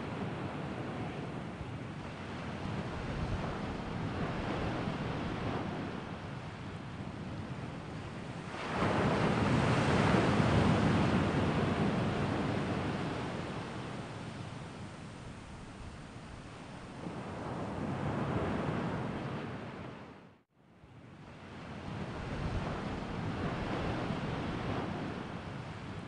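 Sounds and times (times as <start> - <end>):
wind blowing: 0.0 - 20.3, 21.4 - 26.0.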